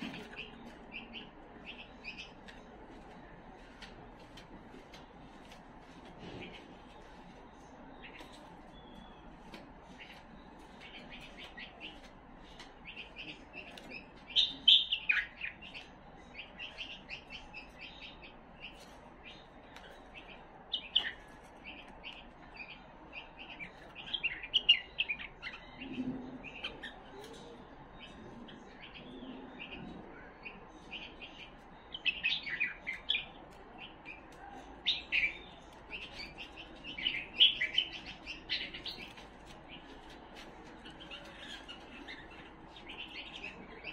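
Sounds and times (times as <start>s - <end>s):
bird chirpy song: 0.0s - 3.3s, 6.2s - 43.9s.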